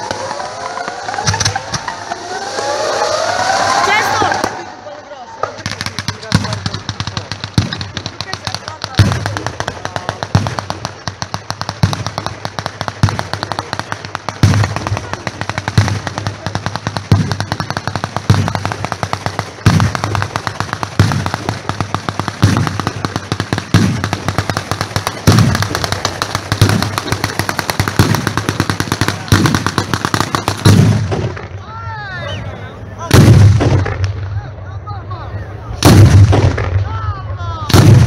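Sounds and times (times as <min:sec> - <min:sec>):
fireworks bangs: 0:00.0 - 0:38.0
fireworks crackling: 0:00.0 - 0:38.0.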